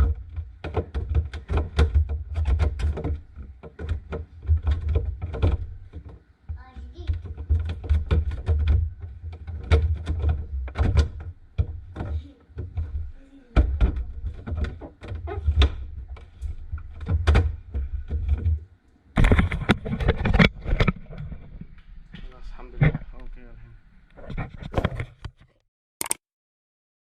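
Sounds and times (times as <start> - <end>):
knocks and clunks: 0.0 - 23.5.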